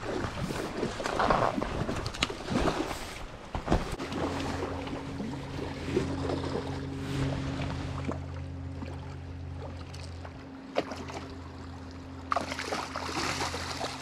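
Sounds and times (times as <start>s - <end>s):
fish splashing in shallow water: 0.0s - 14.0s
outboard motor humming: 0.0s - 14.0s.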